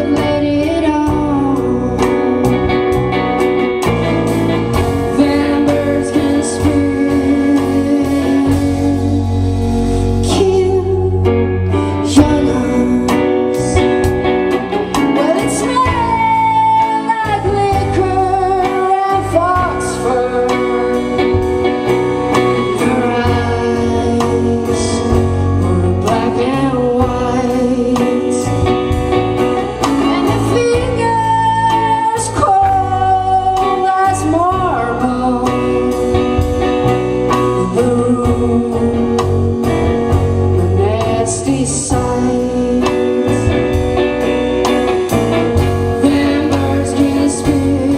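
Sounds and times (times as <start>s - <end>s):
woman singing: 0.0s - 4.0s, 4.7s - 29.1s, 29.9s - 44.9s, 45.6s - 47.9s
bass: 0.0s - 47.9s
drums: 0.0s - 47.9s
guitar: 0.0s - 47.9s.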